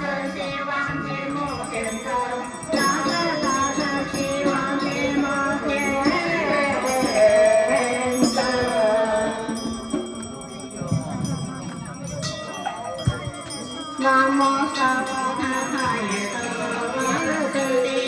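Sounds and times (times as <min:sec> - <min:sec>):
devotional chanting: 0:00.0 - 0:11.6, 0:12.2 - 0:18.0.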